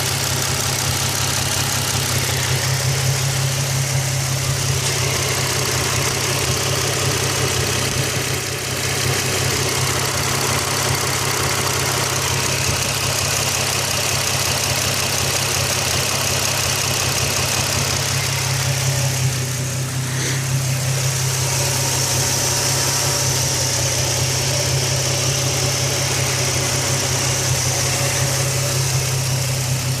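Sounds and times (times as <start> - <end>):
car engine idling: 0.0 - 30.0
fast engine ticking: 0.0 - 30.0.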